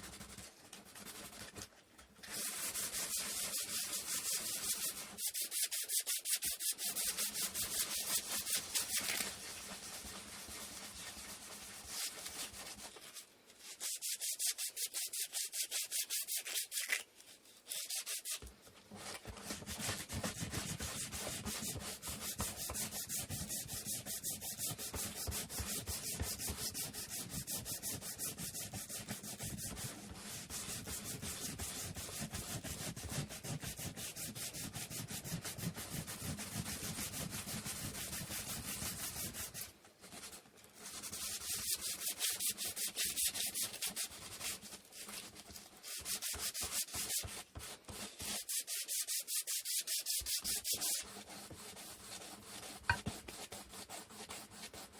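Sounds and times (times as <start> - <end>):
sandpaper rubbing on wood: 2.3 - 17.0, 17.7 - 18.4, 19.4 - 54.9.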